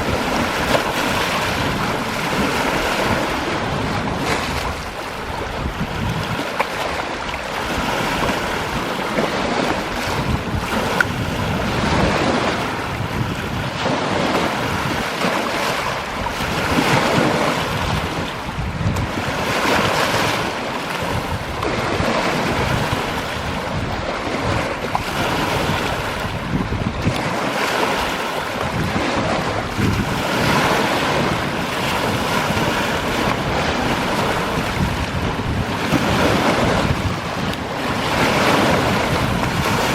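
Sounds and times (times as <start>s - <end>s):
waves breaking on a beach: 0.0s - 39.9s
wind buffeting microphone: 0.0s - 39.9s.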